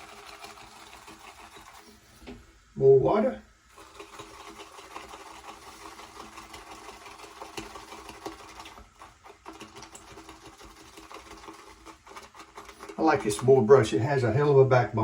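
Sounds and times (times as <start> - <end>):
shaving brush swirling in lather: 0.0 - 2.2, 3.7 - 14.5.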